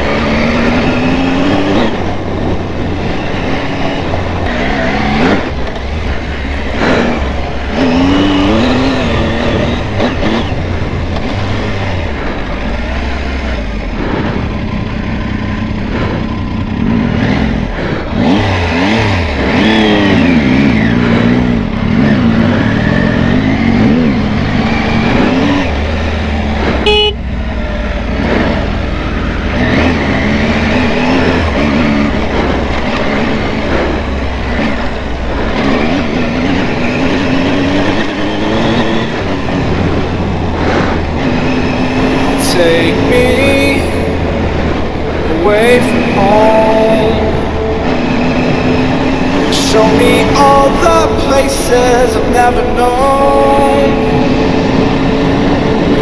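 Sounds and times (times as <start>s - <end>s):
motorcycle engine revving: 0.0s - 56.0s
steady rushing noise: 0.0s - 56.0s.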